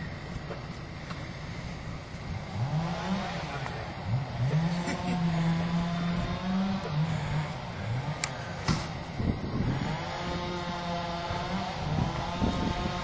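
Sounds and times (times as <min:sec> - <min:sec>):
diesel truck engine revving: 0:01.2 - 0:13.0.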